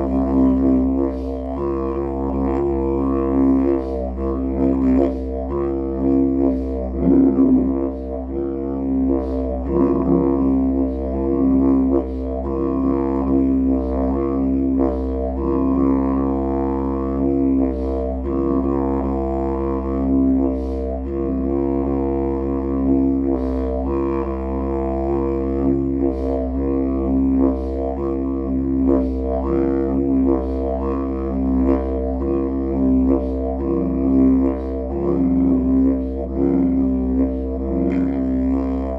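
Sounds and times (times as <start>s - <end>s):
didgeridoo drone: 0.0s - 38.9s.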